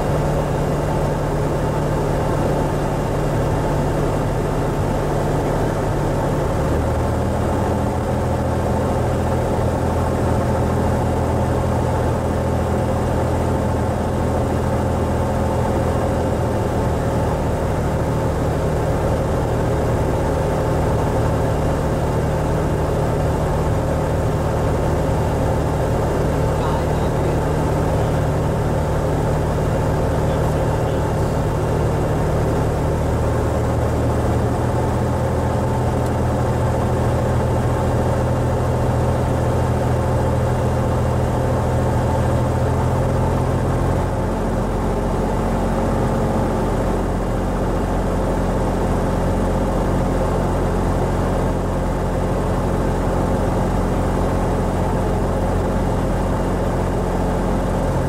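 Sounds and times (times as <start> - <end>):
aircraft engine droning in cabin: 0.0 - 58.0.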